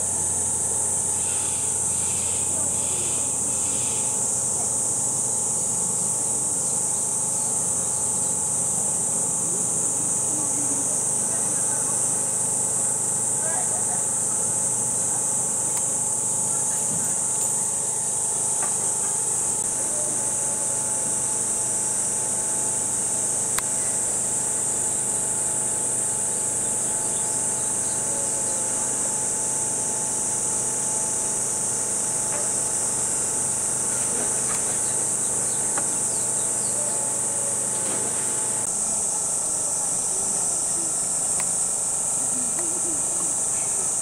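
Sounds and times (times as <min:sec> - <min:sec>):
cicadas chorus: 0:00.0 - 0:44.0.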